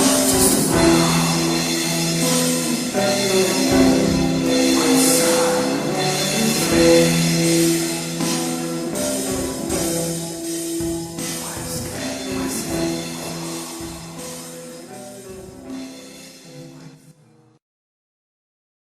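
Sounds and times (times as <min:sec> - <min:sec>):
heavy rock guitars: 0:00.0 - 0:16.7
cymbal crashes: 0:00.0 - 0:16.8
drums: 0:00.0 - 0:16.9.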